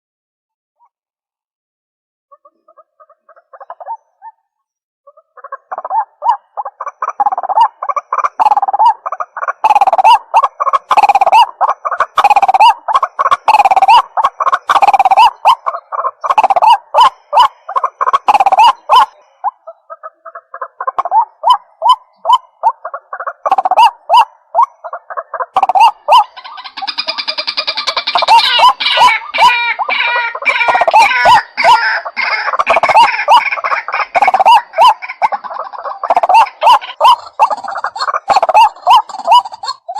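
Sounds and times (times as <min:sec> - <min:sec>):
waterhen rapid repeated calls: 0:02.3 - 0:04.4, 0:05.1 - 0:39.9.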